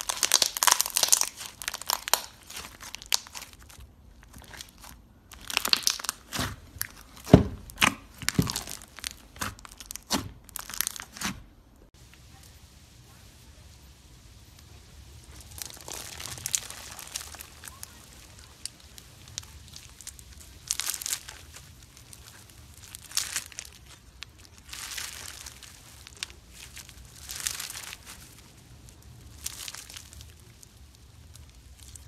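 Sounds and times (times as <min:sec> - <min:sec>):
slime with beads crackling: 0:00.0 - 0:11.4, 0:14.6 - 0:32.0.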